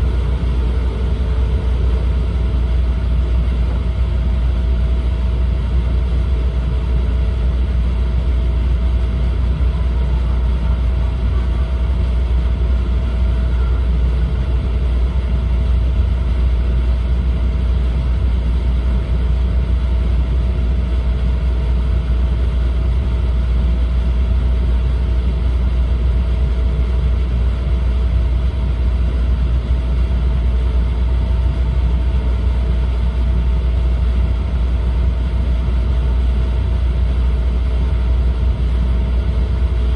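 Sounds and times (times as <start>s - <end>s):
train cabin low rumble: 0.0s - 39.9s.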